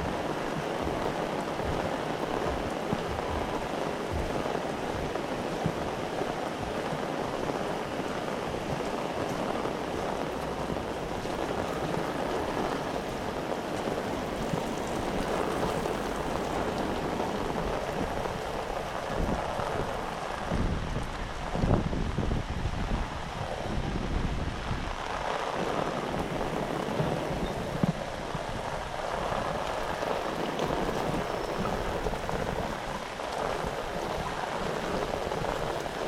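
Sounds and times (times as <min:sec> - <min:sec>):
heavy rain pouring: 0:00.0 - 0:36.0
wind buffeting microphone: 0:00.0 - 0:36.0.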